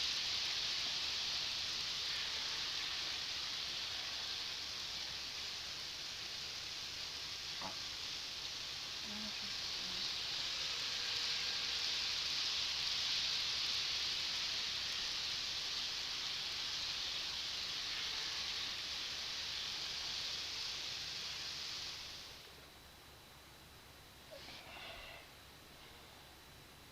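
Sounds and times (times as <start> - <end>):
model train rushing hiss: 0.0 - 22.6, 24.3 - 26.4.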